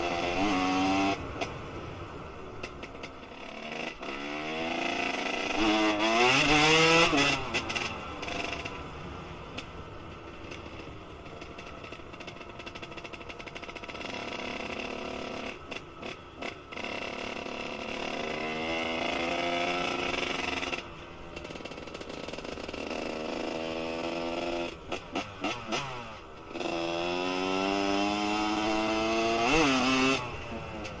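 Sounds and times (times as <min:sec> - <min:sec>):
two-stroke engine revving: 0:00.0 - 0:01.2, 0:02.7 - 0:08.7, 0:11.5 - 0:20.8, 0:21.4 - 0:31.0.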